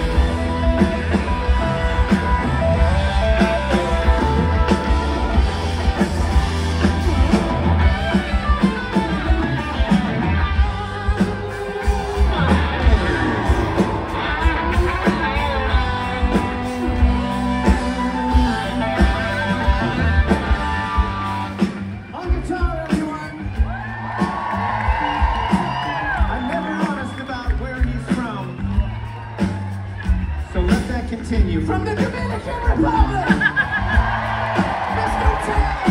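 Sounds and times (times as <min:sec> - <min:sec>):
live rock band: 0:00.0 - 0:35.9.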